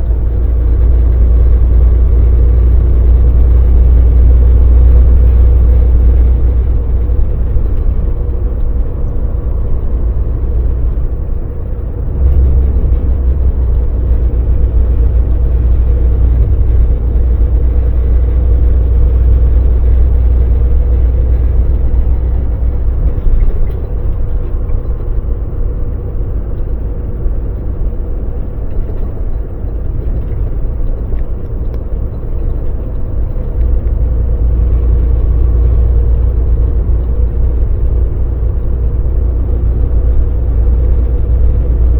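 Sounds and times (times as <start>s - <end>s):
truck diesel engine rumbling: 0.0s - 41.9s.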